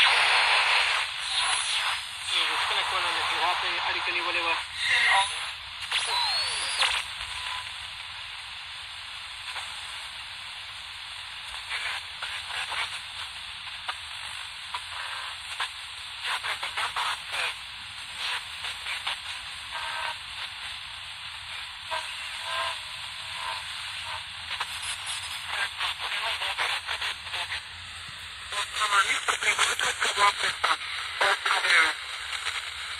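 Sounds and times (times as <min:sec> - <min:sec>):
radio crackles and clicks: 0:00.0 - 0:08.3, 0:09.4 - 0:10.0, 0:11.5 - 0:32.9
radio static hiss: 0:00.0 - 0:32.9.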